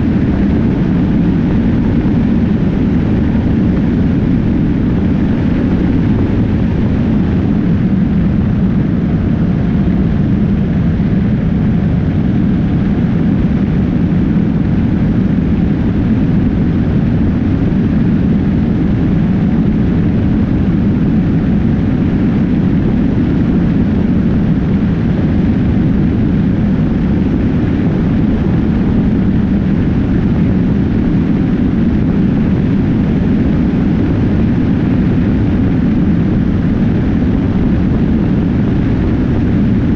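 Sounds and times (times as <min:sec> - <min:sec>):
motorcycle road noise rumble: 0:00.0 - 0:39.9
wind on microphone: 0:00.0 - 0:39.9.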